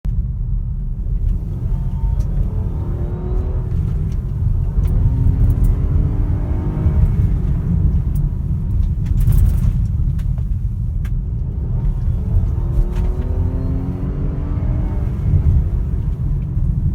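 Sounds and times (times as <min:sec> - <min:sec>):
car engine revving: 0:00.8 - 0:16.9.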